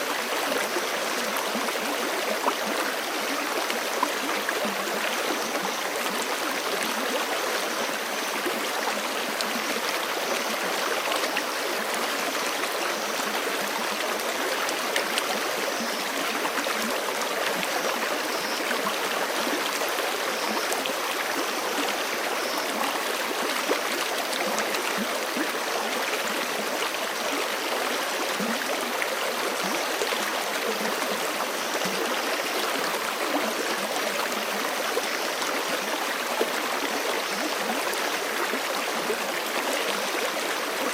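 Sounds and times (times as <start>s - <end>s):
creek flowing over rocks: 0.0s - 40.9s.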